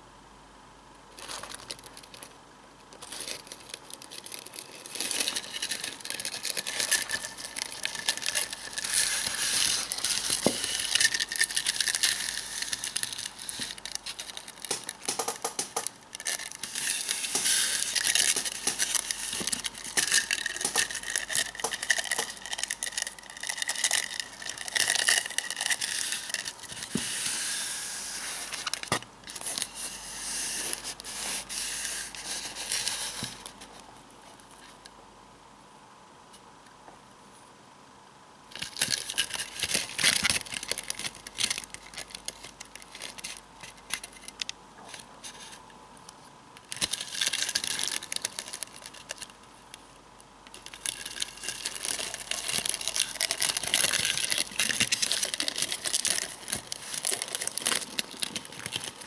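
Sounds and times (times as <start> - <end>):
beetles scratching and crackling: 1.1 - 33.7, 38.5 - 45.6, 46.6 - 49.5, 50.4 - 59.0.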